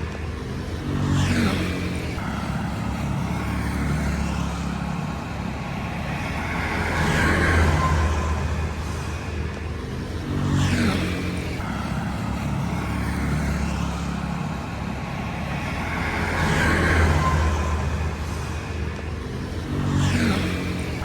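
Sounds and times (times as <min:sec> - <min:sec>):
traffic engine hum: 0:00.0 - 0:21.0
vehicle passing close: 0:00.9 - 0:21.0.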